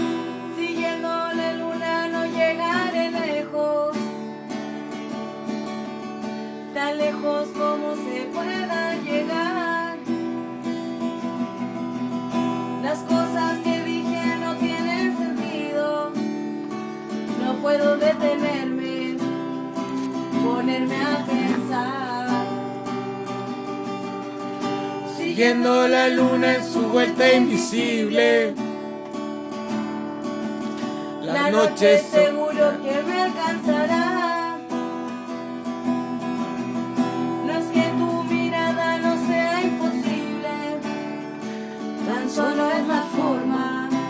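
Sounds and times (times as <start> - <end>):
acoustic guitar strumming chords: 0.0 - 44.0.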